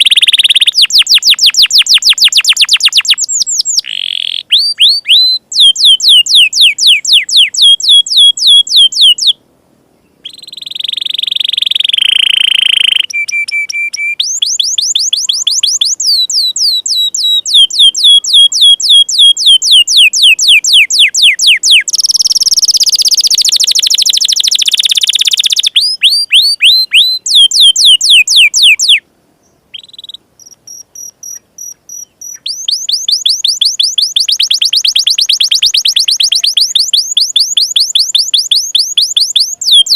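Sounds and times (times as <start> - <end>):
canary singing: 0.0 - 9.4, 10.0 - 39.9.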